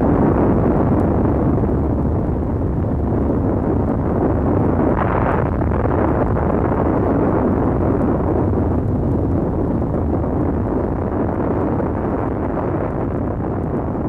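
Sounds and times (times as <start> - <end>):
large explosion rumble: 0.0 - 14.0.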